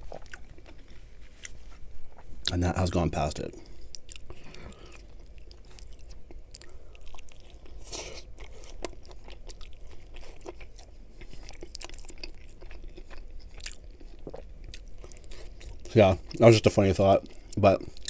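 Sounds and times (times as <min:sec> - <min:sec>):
biting and chewing: 0:00.0 - 0:02.3, 0:03.9 - 0:16.5.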